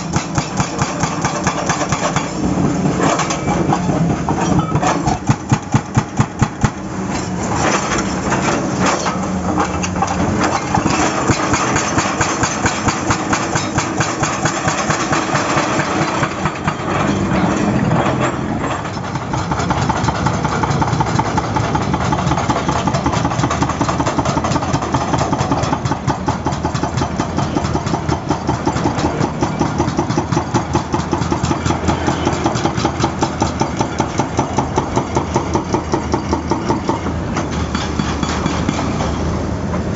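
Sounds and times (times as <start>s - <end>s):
hydraulic breaker hammering: 0.0s - 6.8s, 7.5s - 39.3s
excavator engine running: 0.0s - 39.9s.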